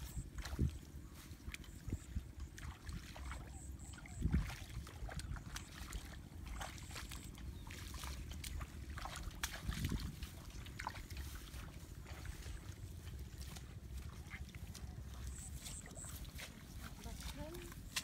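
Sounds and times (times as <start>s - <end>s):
wind rumbling on microphone: 0.0s - 17.8s
footsteps splashing through water: 0.0s - 18.0s.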